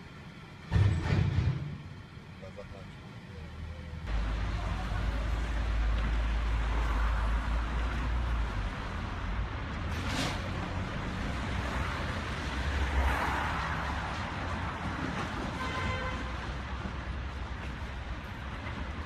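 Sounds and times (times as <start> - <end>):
vehicle road noise: 0.0 - 19.0.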